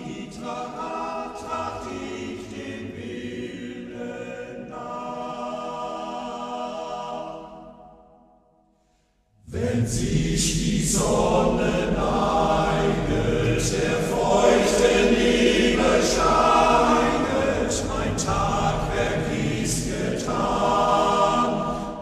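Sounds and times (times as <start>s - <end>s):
men's choir singing: 0.0s - 8.0s, 9.5s - 22.0s.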